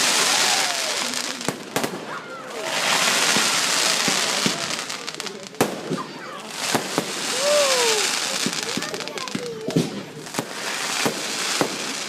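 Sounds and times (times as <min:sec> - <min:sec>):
faint crowd voices: 0:00.0 - 0:12.0
firework bangs: 0:00.0 - 0:12.0
fireworks crackling: 0:00.0 - 0:12.0.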